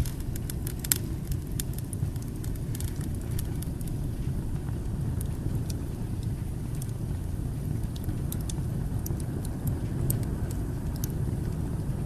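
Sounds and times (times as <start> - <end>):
logs crackling and popping: 0.0 - 12.0
low rumble of fire: 0.0 - 12.0.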